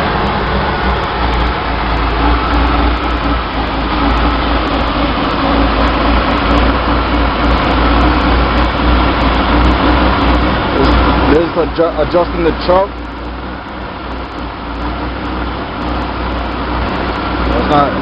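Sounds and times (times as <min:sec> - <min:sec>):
engine running at high idle: 0:00.0 - 0:18.0.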